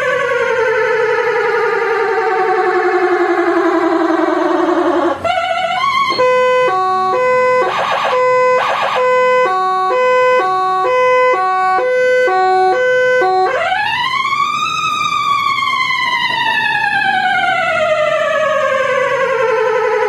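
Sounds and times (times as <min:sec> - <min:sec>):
electronic siren: 0:00.0 - 0:20.0.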